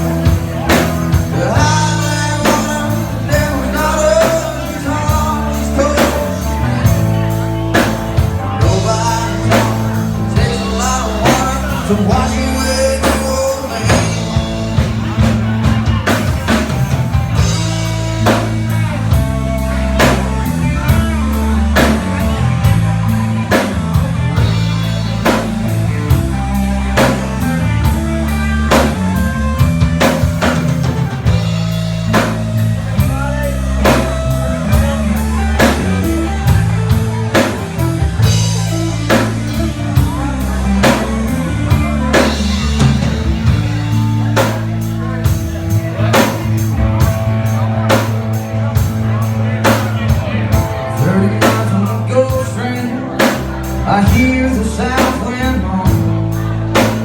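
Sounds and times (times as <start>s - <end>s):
bass line: 0.0s - 57.0s
drum kit beat: 0.0s - 57.0s
electric guitar: 0.0s - 57.0s.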